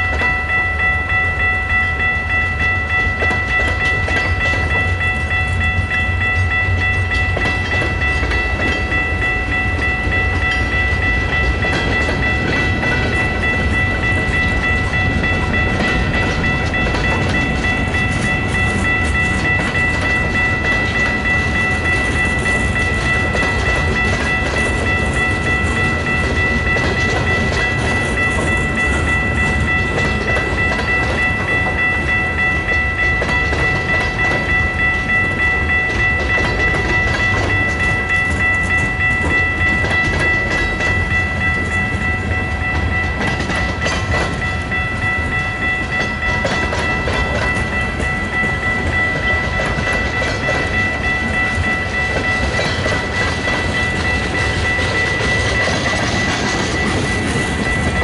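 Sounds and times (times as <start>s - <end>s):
train wheels rumbling and clicking: 0.0s - 58.0s.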